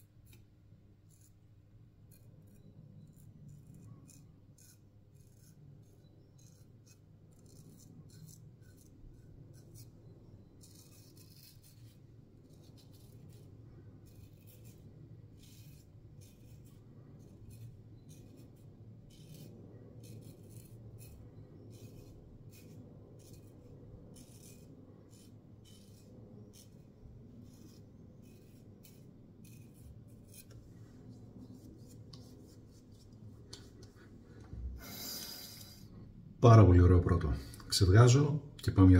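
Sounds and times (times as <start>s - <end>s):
razor scratching stubble: 0.0s - 1.5s, 2.1s - 33.9s.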